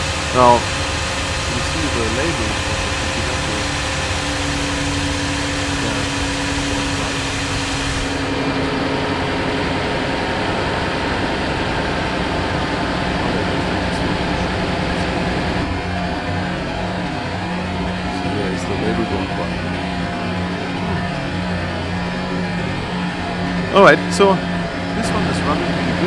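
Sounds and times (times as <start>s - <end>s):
car engine idling: 0.0s - 26.0s
steady tone: 0.0s - 26.0s.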